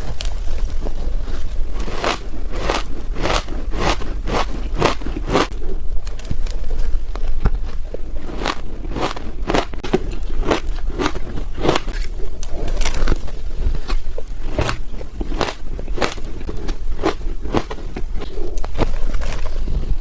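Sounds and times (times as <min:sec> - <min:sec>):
ice being bitten and chewed: 0:01.3 - 0:19.9.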